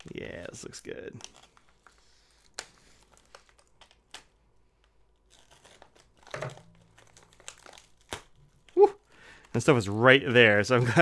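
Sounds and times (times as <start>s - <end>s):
plastic crinkling and tearing: 0.0s - 10.8s.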